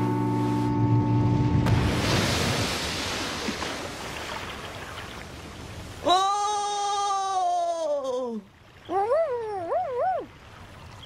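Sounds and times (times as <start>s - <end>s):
cartoon rushing floodwater: 1.6s - 11.0s.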